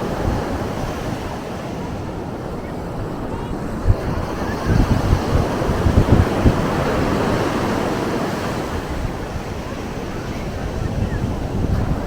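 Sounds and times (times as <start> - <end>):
ocean surf washing ashore: 0.0 - 12.0
wind buffeting microphone: 0.0 - 12.0.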